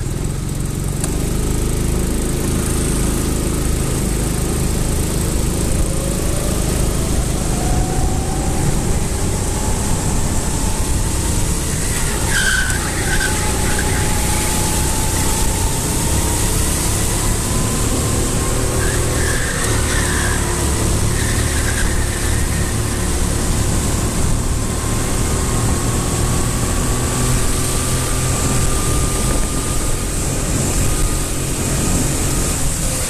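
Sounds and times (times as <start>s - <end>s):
racing engine rumbling: 0.0s - 33.0s.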